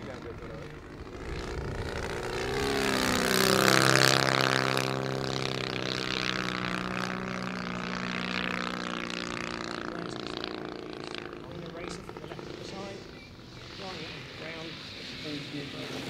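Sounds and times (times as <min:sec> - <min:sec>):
model plane engine droning: 0:00.0 - 0:16.0.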